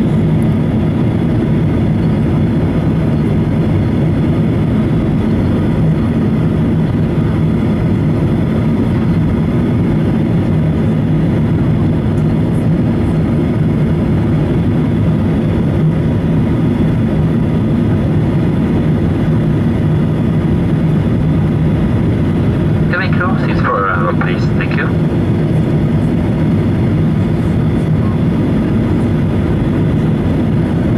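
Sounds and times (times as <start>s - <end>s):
jet engine drone in cabin: 0.0s - 30.9s
steady low hum: 0.0s - 30.9s.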